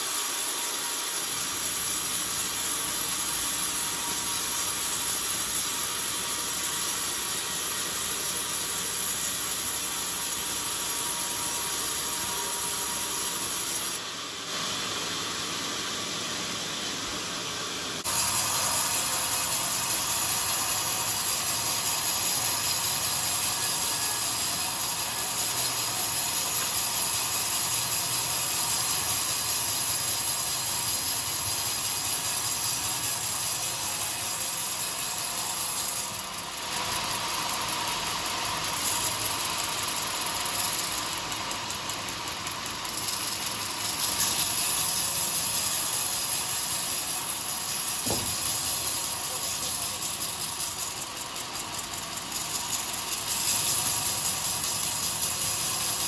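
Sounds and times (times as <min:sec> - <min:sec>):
band saw cutting wood: 0:00.0 - 0:14.0, 0:14.7 - 0:56.0.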